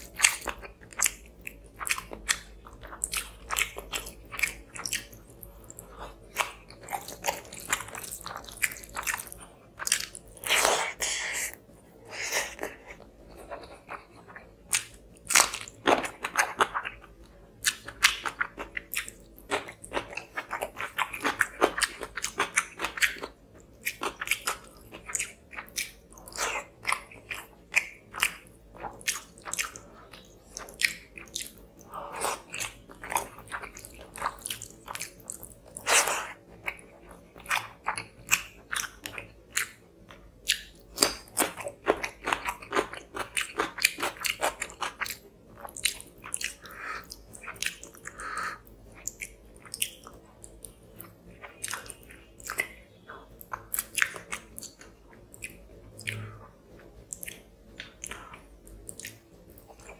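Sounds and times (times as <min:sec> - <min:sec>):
chewing and lip-smacking: 0:00.0 - 0:59.9.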